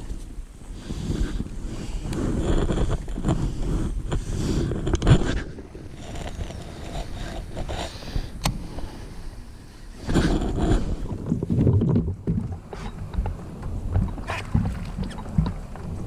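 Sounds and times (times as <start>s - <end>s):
water against kayak: 0.0s - 16.0s
wind buffeting microphone: 0.0s - 16.0s.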